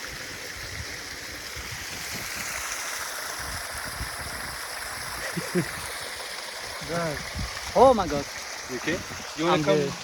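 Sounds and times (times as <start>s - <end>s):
waterfall rushing water: 0.0s - 10.0s.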